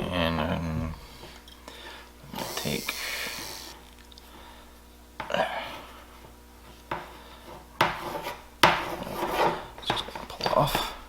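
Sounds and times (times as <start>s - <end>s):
faint steady hum: 0.0s - 11.0s
rubs and knocks of parts handled: 0.6s - 11.0s.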